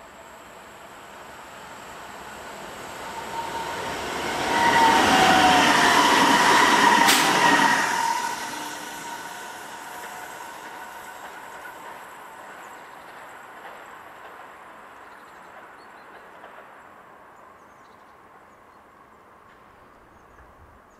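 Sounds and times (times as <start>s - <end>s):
train running noise: 0.0s - 17.6s.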